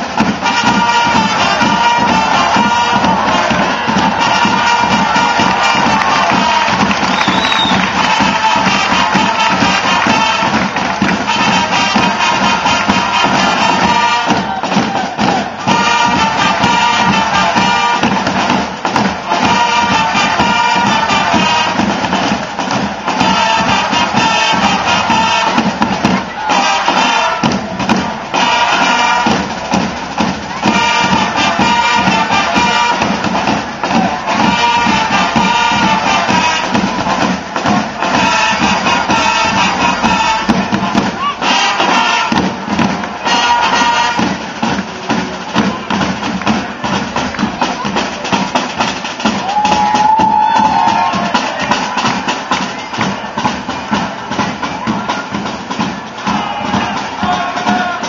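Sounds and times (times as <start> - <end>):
live band with percussion: 0.0 - 58.0.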